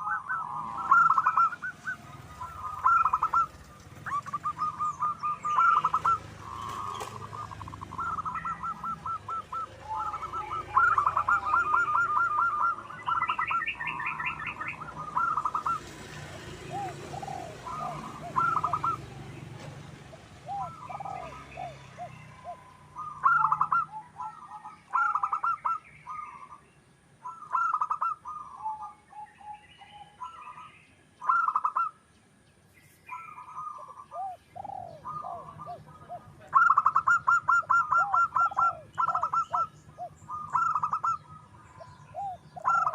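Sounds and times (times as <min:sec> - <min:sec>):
doves cooing: 0:00.0 - 0:26.6, 0:27.2 - 0:32.0, 0:33.1 - 0:42.9
bird chirping: 0:00.0 - 0:42.9.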